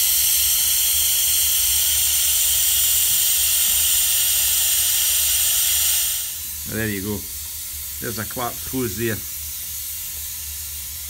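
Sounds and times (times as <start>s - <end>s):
air tool hissing: 0.0s - 11.0s.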